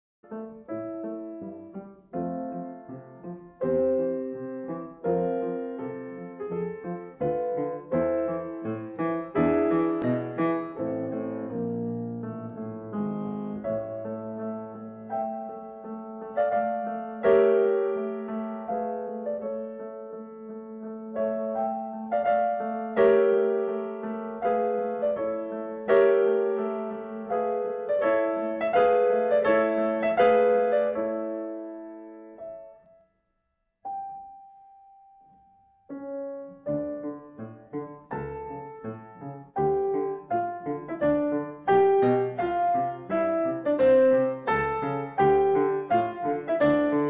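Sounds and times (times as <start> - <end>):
solo piano music: 0.2 - 47.0.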